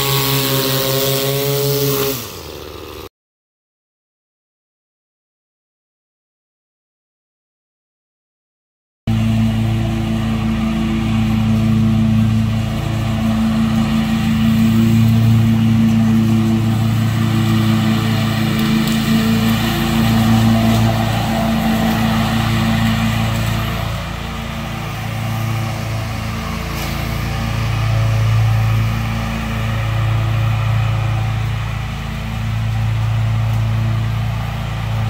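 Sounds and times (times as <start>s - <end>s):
mower engine running: 0.0s - 3.1s, 9.1s - 35.0s.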